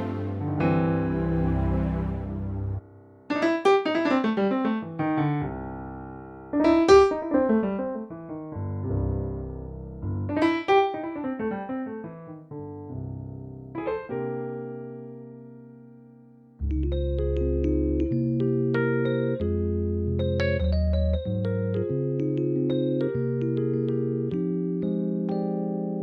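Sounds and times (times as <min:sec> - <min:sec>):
keyboard piano playing chords: 0:00.0 - 0:26.0.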